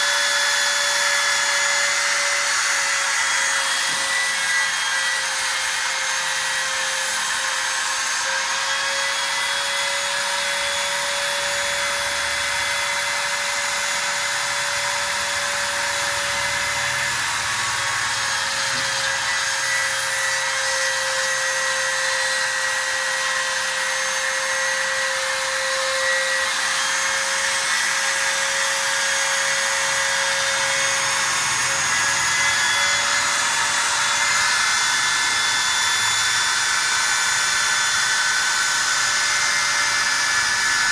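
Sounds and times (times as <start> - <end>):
cutting machine spindle whine: 0.0 - 40.9.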